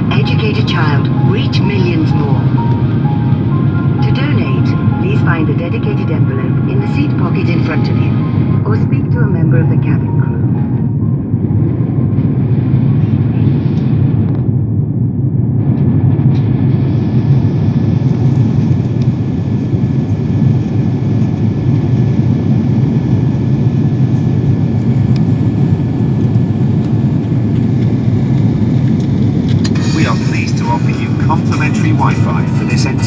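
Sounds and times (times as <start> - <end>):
airliner cabin drone: 0.0 - 33.0.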